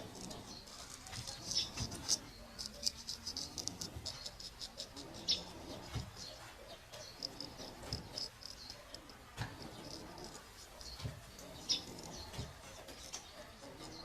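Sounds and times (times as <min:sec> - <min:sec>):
razor scraping stubble: 0:00.0 - 0:14.0.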